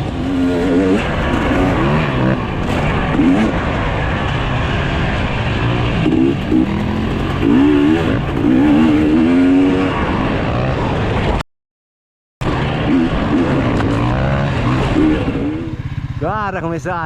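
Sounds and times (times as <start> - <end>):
dirt bike engines running: 0.0 - 11.4, 12.4 - 17.0
dirt bike revving: 0.0 - 11.4, 12.4 - 16.7.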